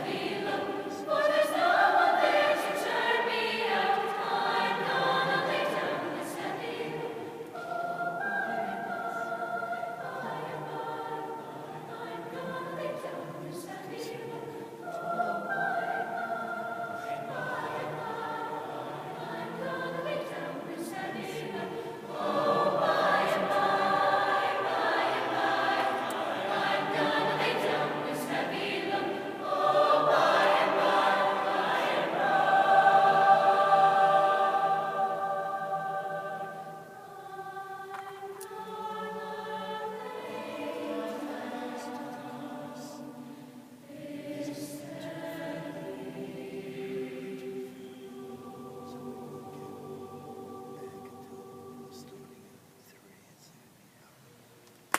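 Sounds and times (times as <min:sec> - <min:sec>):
choir singing held chords: 0:00.0 - 0:52.8.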